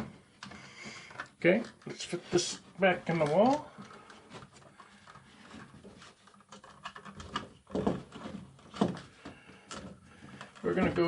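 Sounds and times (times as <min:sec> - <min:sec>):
rustling and scraping: 0:00.0 - 0:11.0.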